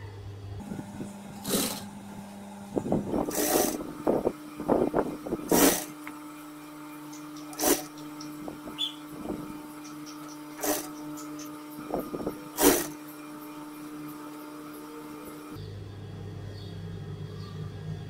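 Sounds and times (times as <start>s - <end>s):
sewing machine motor humming: 0.6s - 15.6s.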